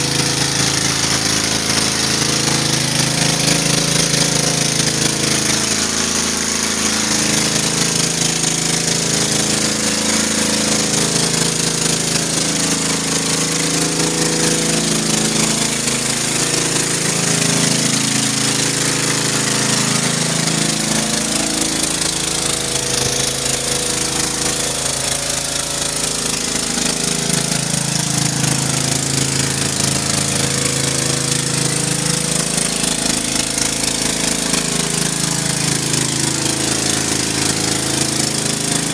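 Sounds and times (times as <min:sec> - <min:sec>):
pressure washer running: 0:00.0 - 0:38.9
water spraying onto concrete: 0:00.0 - 0:38.9.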